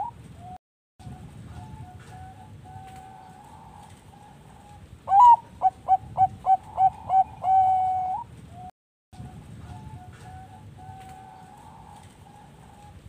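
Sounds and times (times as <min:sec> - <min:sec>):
dove singing: 0:00.0 - 0:08.3, 0:09.2 - 0:13.0
faint dove coos: 0:01.6 - 0:08.7, 0:09.3 - 0:13.0.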